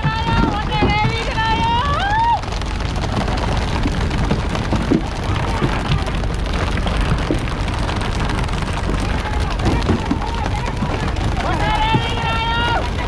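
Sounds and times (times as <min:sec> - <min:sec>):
low rumble: 0:00.0 - 0:13.0
water spattering on sea surface: 0:00.0 - 0:13.0.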